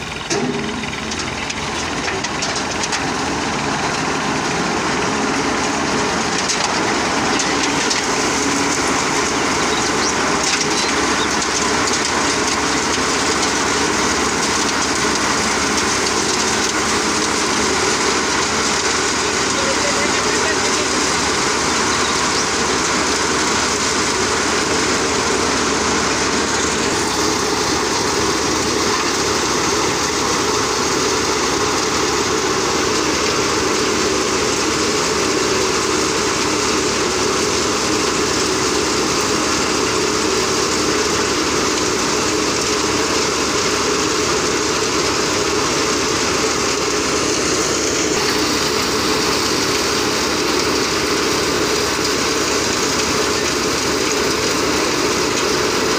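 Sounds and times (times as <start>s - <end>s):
thresher machine running: 0.0s - 55.9s.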